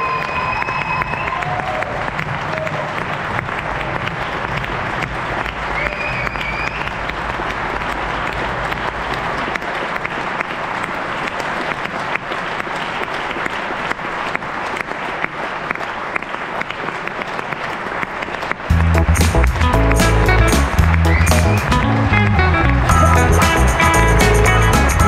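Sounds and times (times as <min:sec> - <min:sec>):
audience clapping: 0:00.0 - 0:25.0.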